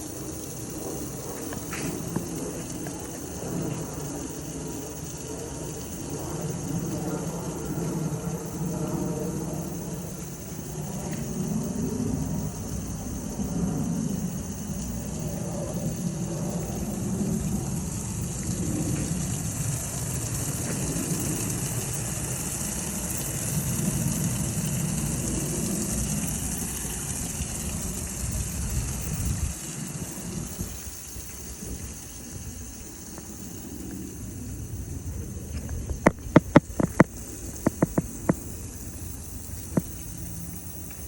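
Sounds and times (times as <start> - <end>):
pump motor rumbling: 0.0 - 41.0
water spraying: 0.0 - 41.0.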